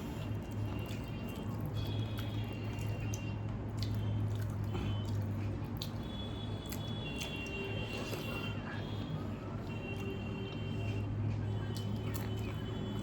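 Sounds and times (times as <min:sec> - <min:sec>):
wet squishy chewing: 0:00.0 - 0:13.0.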